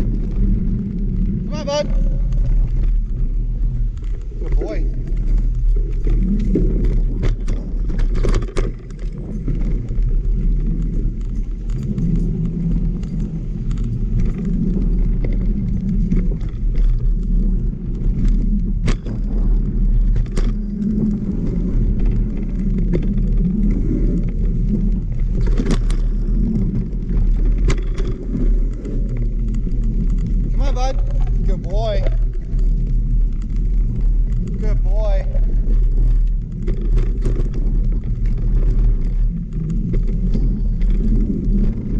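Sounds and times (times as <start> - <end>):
bike clanking and rattling: 0.0 - 41.9
bike tyres rumbling on dirt: 0.0 - 41.9.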